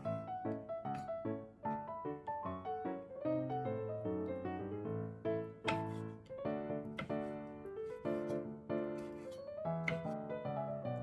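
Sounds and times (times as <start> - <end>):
piano melody with chords: 0.0 - 11.0.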